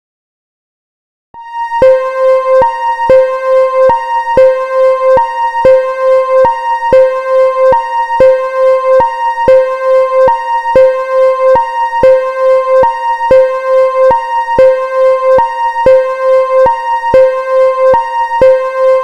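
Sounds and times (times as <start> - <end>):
hi-lo warning siren: 1.4 - 19.0.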